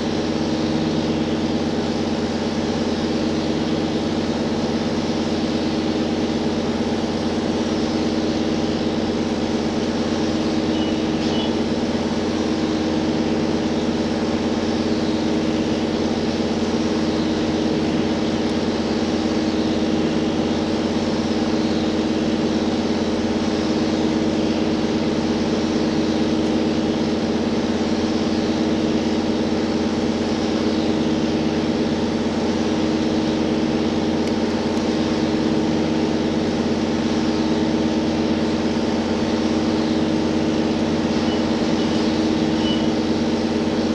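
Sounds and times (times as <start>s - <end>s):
engine-generator hum: 0.0s - 43.9s.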